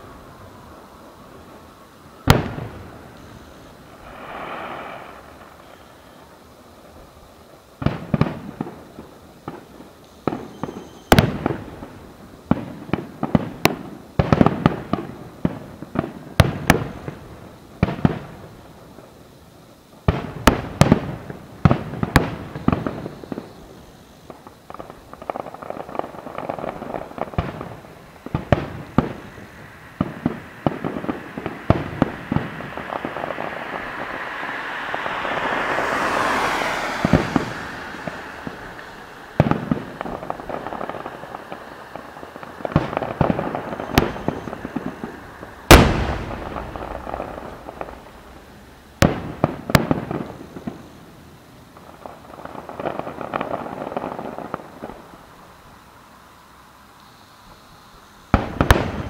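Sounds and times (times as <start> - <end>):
fireworks bursting: 0.0 - 59.0
hiss: 0.0 - 59.0.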